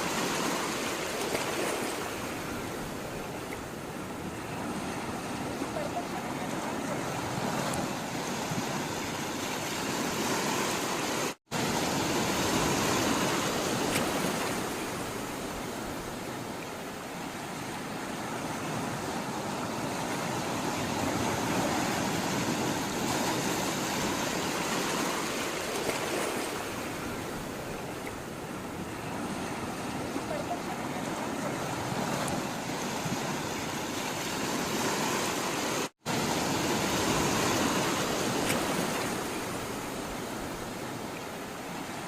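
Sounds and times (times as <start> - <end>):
sea water rushing and washing: 0.0 - 42.0.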